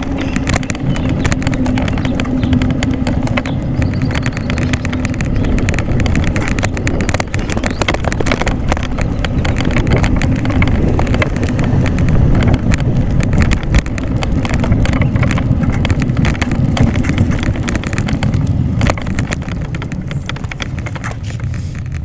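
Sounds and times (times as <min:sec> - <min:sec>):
bike rattles and knocks: 0:00.0 - 0:22.0
wind rumbling on microphone: 0:00.0 - 0:22.0.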